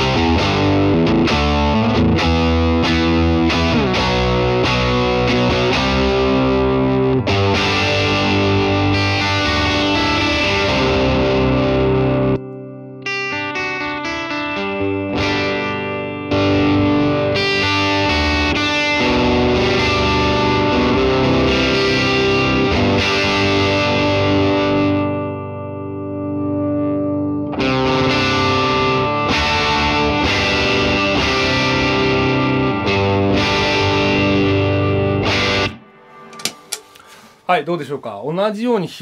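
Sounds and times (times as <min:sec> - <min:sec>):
distorted electric guitar: 0:00.0 - 0:37.3.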